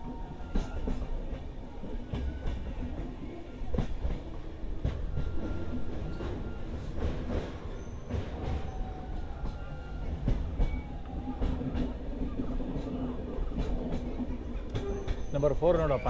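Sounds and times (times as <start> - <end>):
train rumbling on rails: 0.0 - 16.0
train wheels clattering on track: 0.0 - 16.0.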